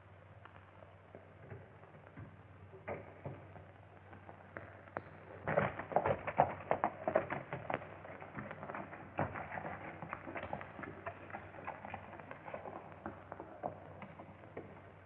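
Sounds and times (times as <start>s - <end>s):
horse hooves clattering: 2.8s - 15.0s.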